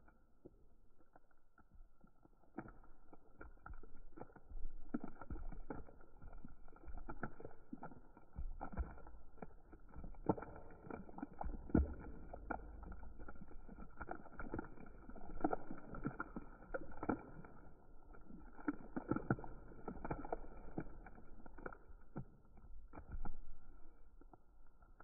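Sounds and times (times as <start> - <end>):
slime kneaded by hand: 0.0 - 25.0.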